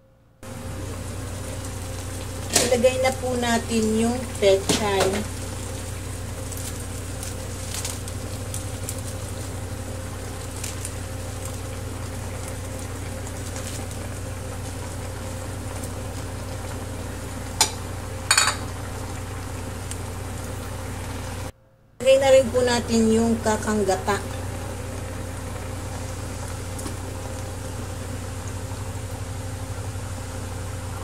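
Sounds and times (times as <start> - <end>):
cooktop hum: 0.0 - 31.0
faint bubbling and crackling: 0.4 - 31.0.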